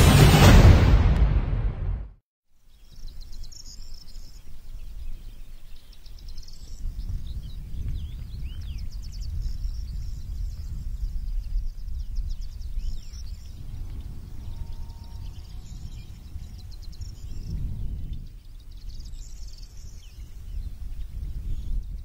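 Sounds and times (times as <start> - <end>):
birds chirping and trilling: 2.6 - 22.0
wind buffeting microphone: 3.0 - 22.0.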